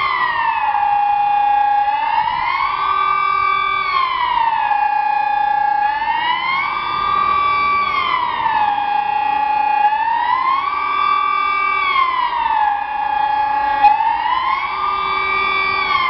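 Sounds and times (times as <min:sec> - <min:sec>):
electronic siren wailing: 0:00.0 - 0:16.0.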